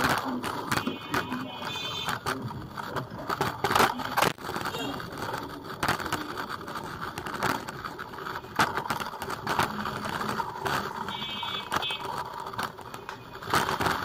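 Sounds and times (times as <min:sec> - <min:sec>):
bicycle frame rattling: 0:00.0 - 0:14.0
road noise: 0:00.0 - 0:14.0.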